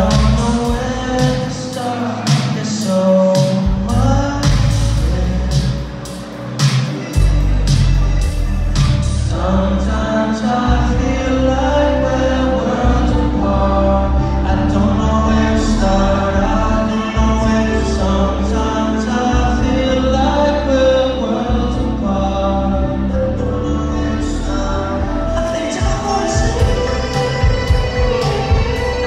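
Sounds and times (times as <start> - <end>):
man singing into microphone: 0.0 - 6.0, 6.6 - 29.0
backing track with deep bass: 0.0 - 29.0.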